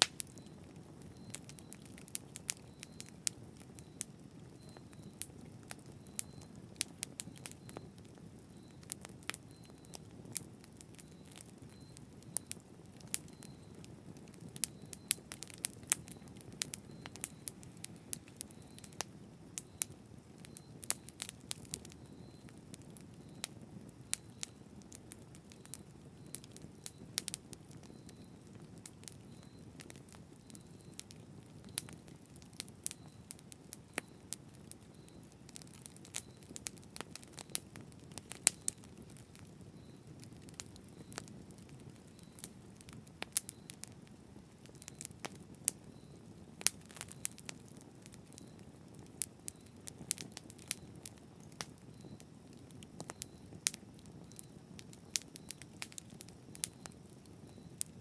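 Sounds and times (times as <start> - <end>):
burning wood crackling and popping: 0.0 - 58.0.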